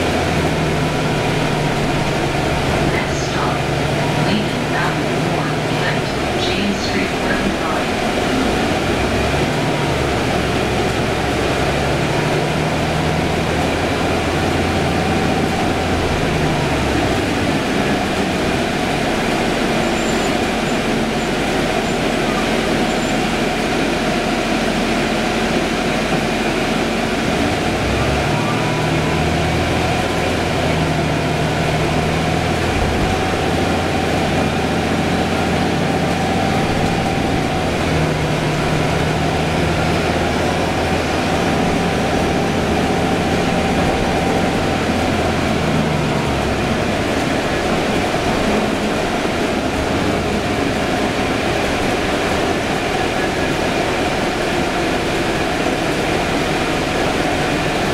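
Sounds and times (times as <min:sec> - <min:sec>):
bus road and drivetrain noise: 0:00.0 - 0:57.9
low engine hum: 0:00.0 - 0:57.9.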